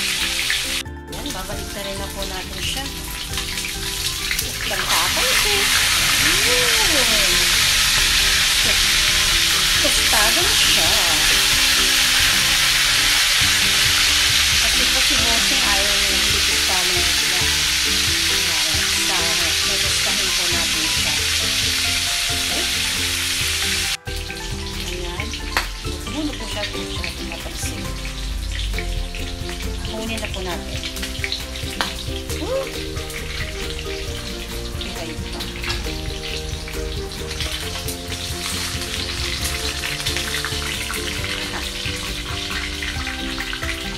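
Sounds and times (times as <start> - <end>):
fish sizzling in hot oil: 0.0 - 43.9
oil popping: 0.0 - 43.9.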